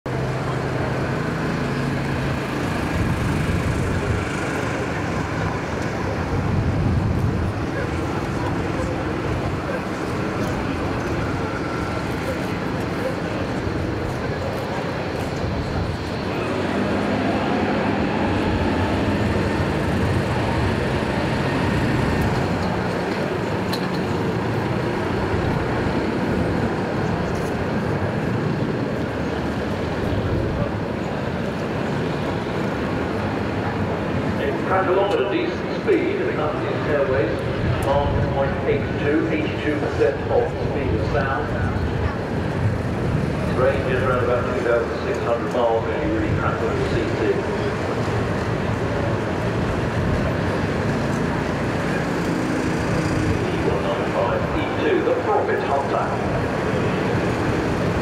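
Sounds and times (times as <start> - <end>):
jet engines at takeoff thrust: 0.1 - 58.0.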